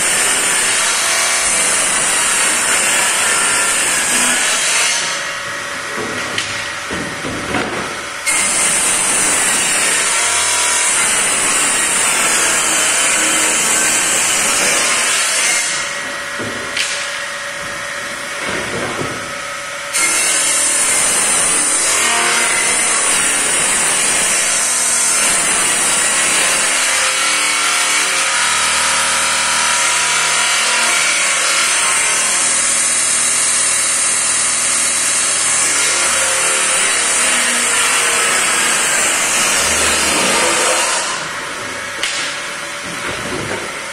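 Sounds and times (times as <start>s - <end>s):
circular saw cutting panels: 0.0s - 43.9s.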